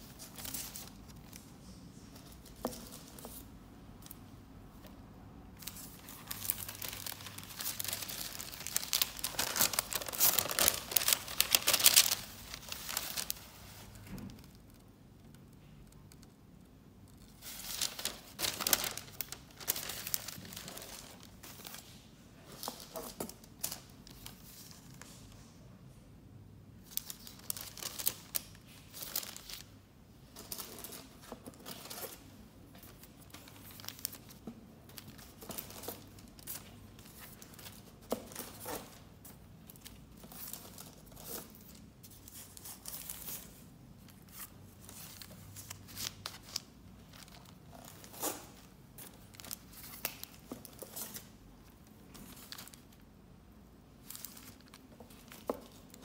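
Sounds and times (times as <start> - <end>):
paper sleeves rustling and crinkling: 0.0 - 4.2, 5.6 - 14.6, 17.1 - 25.5, 26.8 - 53.1, 53.9 - 56.0.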